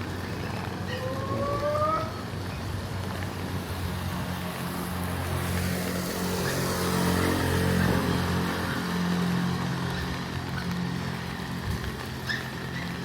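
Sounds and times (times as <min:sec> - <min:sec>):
vehicle engine humming: 0:00.0 - 0:13.0
rain hiss: 0:02.0 - 0:13.0.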